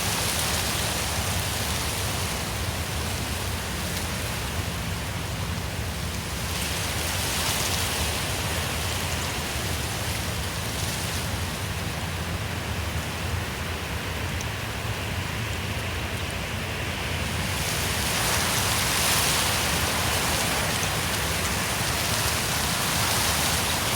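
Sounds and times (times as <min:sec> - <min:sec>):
wind through trees: 0:00.0 - 0:23.9.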